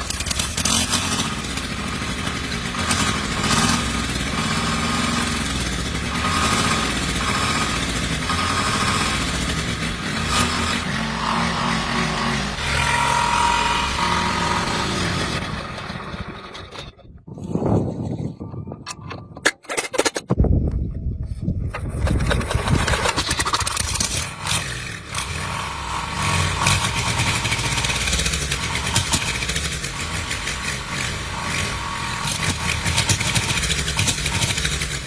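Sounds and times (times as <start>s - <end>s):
engine starting and running: 0.0s - 35.0s.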